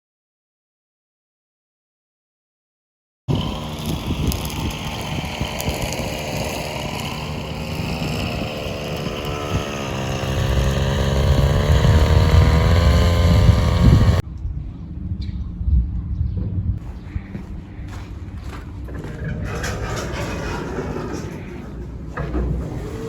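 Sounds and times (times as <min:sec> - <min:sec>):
engine rumbling: 0:03.3 - 0:23.0
wind on microphone: 0:03.3 - 0:23.0.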